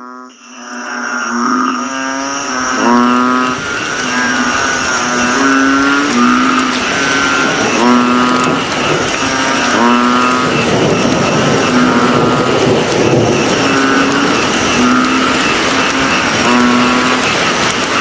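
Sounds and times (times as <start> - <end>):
chorus of frogs: 0.0 - 18.0
high insect whine: 0.0 - 18.0.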